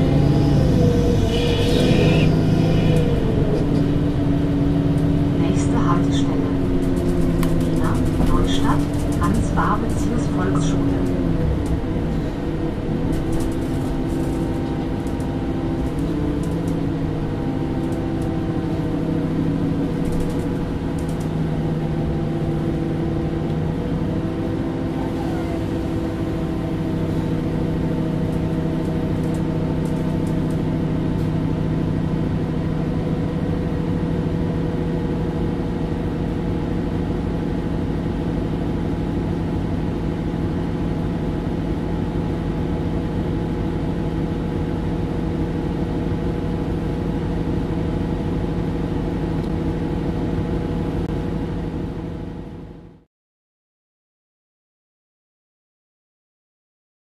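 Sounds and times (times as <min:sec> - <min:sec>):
bus engine running: 0:00.0 - 0:53.1.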